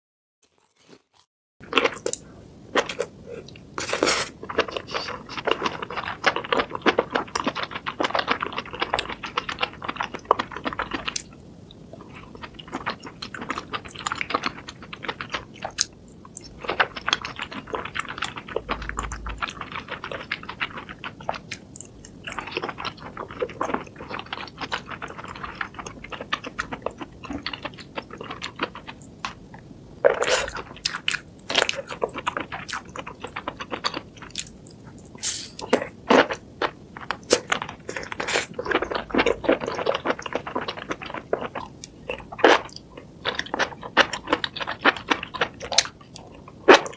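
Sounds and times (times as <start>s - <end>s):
person chewing crunchy food: 0.4s - 46.9s.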